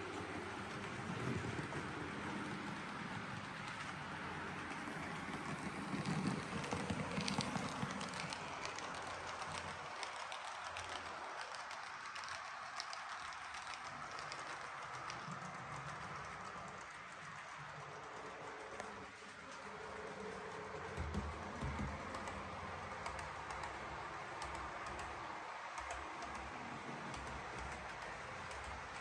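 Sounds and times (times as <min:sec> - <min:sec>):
train wheels clicking: 0:00.0 - 0:29.0.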